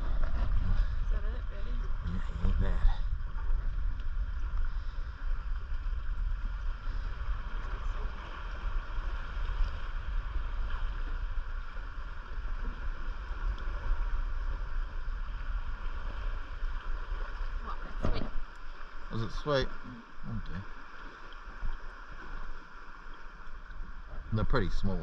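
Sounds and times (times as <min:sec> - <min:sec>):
constant hiss: 0:00.0 - 0:25.0.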